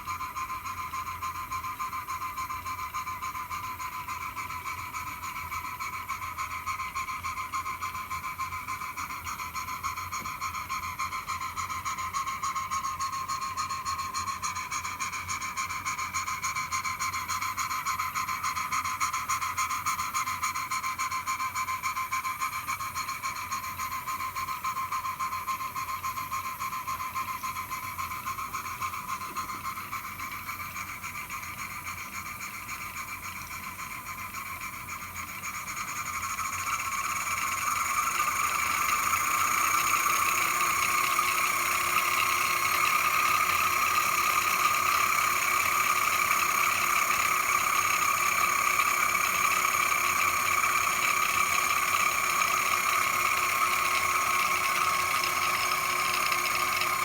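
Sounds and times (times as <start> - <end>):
model steam engine whirring: 0.0 - 57.0.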